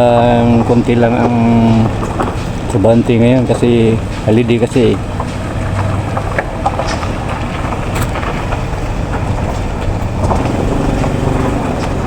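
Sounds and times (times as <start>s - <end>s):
engine hum: 0.0s - 12.0s
passing vehicles rumbling: 0.0s - 12.0s.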